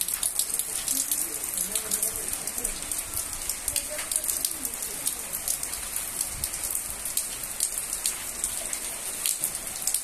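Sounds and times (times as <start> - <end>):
heavy rain hissing: 0.0 - 10.0
raindrops ticking on a surface: 0.0 - 10.0.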